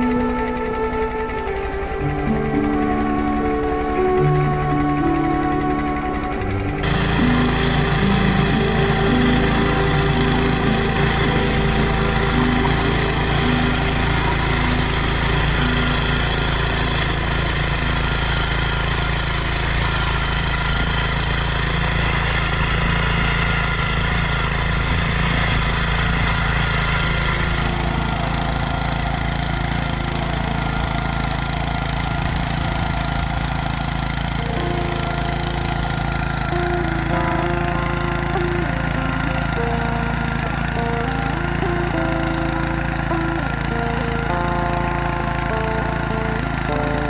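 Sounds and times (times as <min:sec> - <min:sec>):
tiller petrol engine running: 0:00.0 - 0:47.0.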